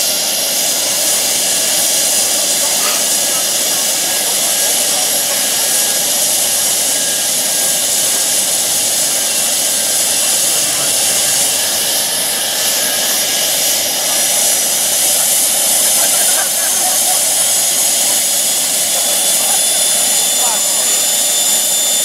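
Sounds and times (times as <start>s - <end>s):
small gas turbine jet hiss: 0.0s - 22.0s.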